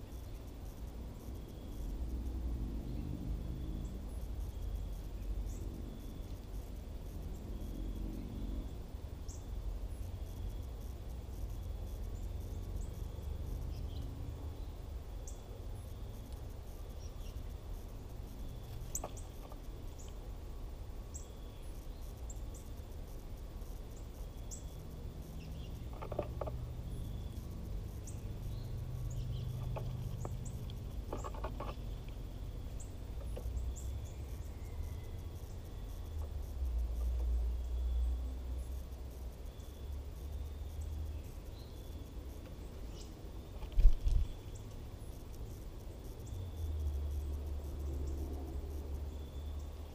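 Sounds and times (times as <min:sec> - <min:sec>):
high insect trill: 0:00.0 - 0:49.9.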